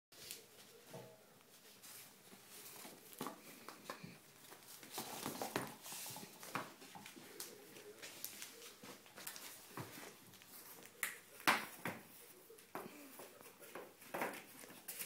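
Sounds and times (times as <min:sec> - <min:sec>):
puppy scuffling on wooden floor: 0:00.2 - 0:15.0.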